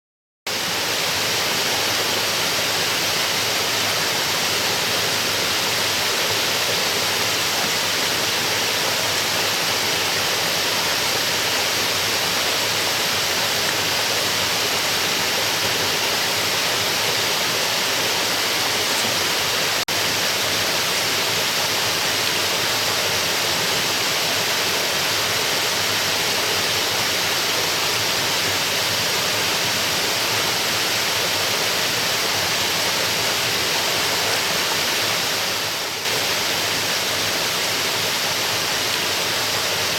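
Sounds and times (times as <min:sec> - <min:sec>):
waterfall rushing: 0:00.5 - 0:39.9.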